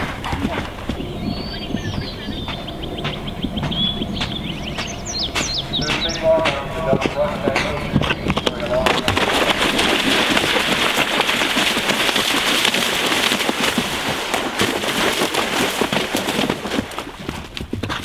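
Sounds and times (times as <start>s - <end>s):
hooves splashing through water: 0.0s - 18.0s.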